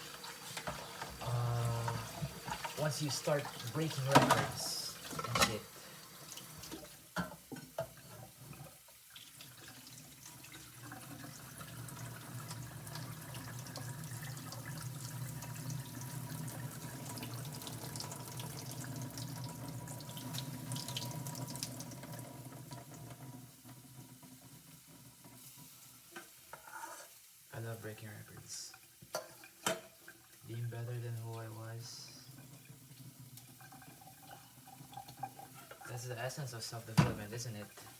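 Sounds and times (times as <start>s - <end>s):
tap water running into sink: 0.0s - 27.0s, 31.1s - 37.9s.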